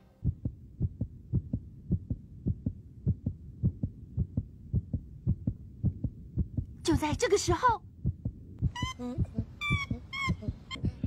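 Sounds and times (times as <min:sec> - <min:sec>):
heartbeat thumps: 0:00.2 - 0:11.0.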